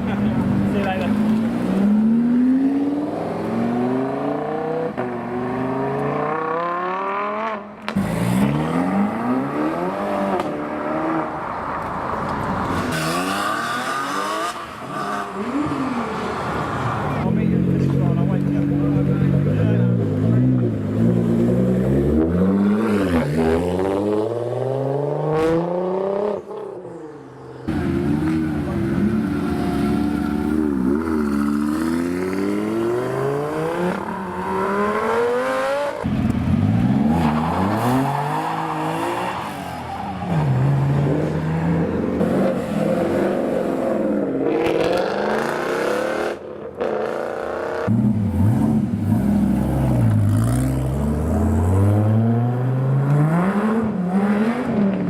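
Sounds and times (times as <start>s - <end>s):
car engines revving and accelerating: 0.0s - 55.0s.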